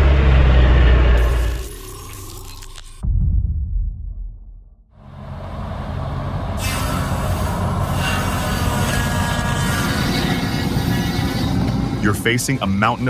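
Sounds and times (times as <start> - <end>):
heavy machinery running: 0.0 - 2.8, 5.0 - 13.0
high squealing whine: 0.0 - 3.0, 5.0 - 13.0.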